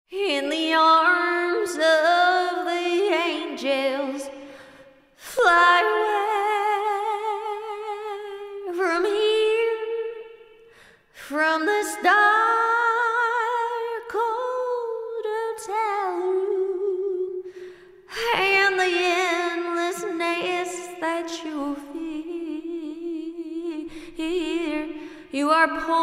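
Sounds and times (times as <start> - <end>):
woman singing unaccompanied: 0.1 - 4.3, 5.3 - 10.2, 11.3 - 17.4, 18.1 - 26.0.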